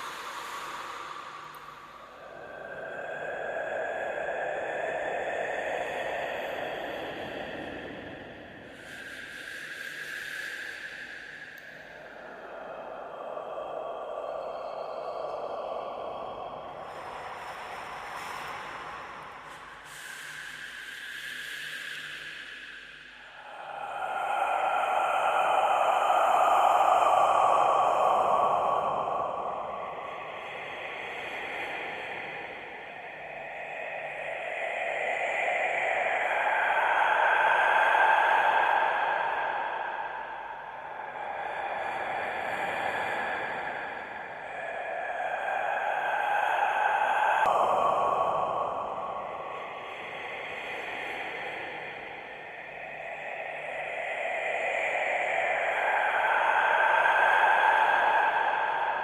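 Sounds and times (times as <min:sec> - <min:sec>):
eerie breathy whispering: 0:00.0 - 0:59.0.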